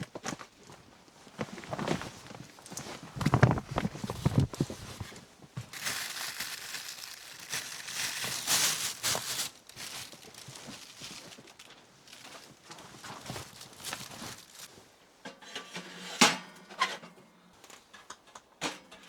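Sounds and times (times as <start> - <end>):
crinkling and rustling handling: 0.0 - 15.4.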